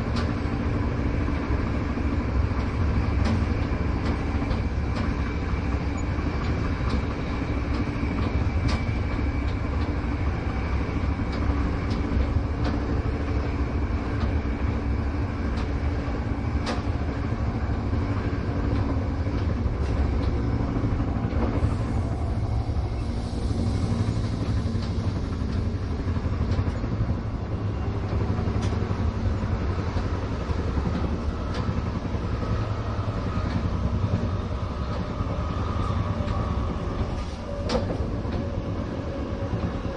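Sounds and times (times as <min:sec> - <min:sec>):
train carriage rumbling on rails: 0:00.0 - 0:39.9.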